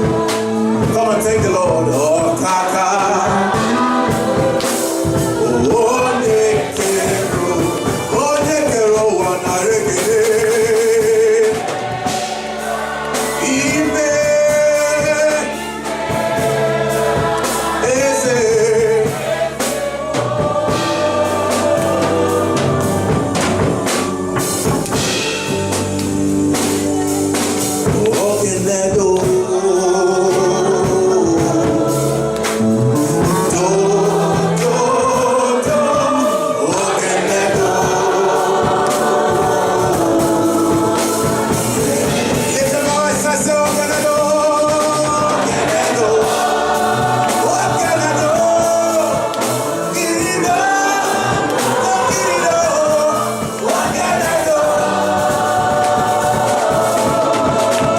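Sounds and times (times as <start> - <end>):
band playing: 0.0 - 57.9
gospel group singing: 0.0 - 57.9
steady percussion: 0.0 - 57.9.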